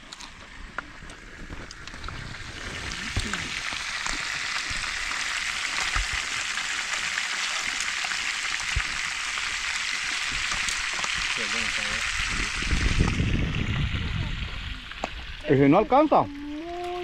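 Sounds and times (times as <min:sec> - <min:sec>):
hot oil sizzling: 0:00.0 - 0:17.0.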